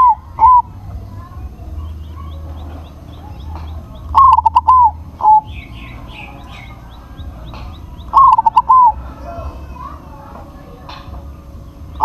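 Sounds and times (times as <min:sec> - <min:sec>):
dove cooing: 0:00.0 - 0:12.0
small birds chirping: 0:00.0 - 0:12.0.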